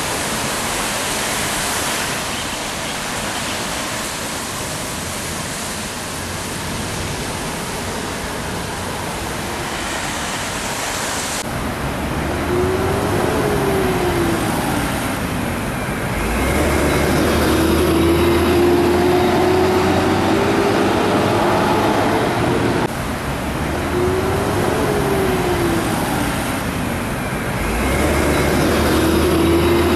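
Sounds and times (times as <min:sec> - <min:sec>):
trucks and cars passing: 0:00.0 - 0:29.9
tyres hissing on wet road: 0:00.0 - 0:29.9.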